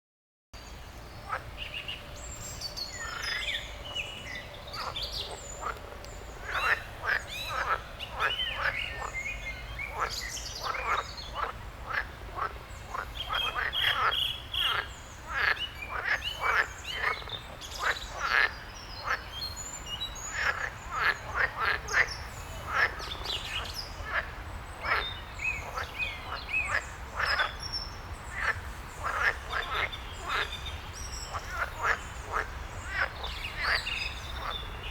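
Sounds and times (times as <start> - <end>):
birds chirping: 0.6 - 34.9
frogs croaking: 2.9 - 27.6, 28.2 - 34.9.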